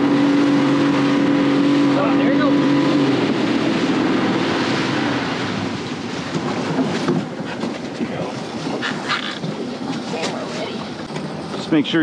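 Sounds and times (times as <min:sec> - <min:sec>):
outboard motor running: 0:00.0 - 0:12.0
rushing water: 0:00.0 - 0:12.0.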